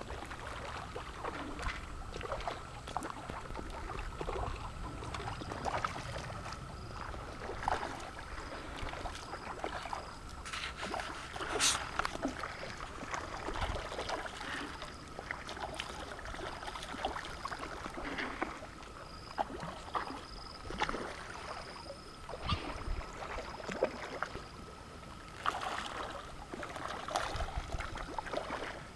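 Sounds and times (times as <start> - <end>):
fish splashing and slurping: 0.0 - 28.9.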